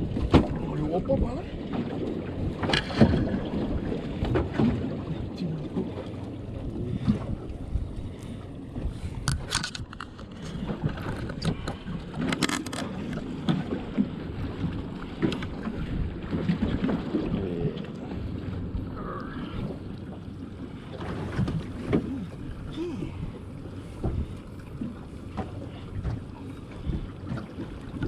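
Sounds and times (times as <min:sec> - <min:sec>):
wind buffeting microphone: 0:00.0 - 0:17.4, 0:18.0 - 0:28.0
low steady rumble: 0:00.0 - 0:28.0.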